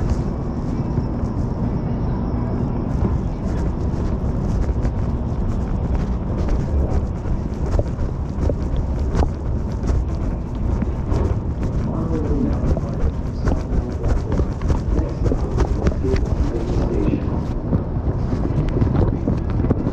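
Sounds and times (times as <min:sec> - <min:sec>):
train rumble from aboard: 0:00.0 - 0:19.9.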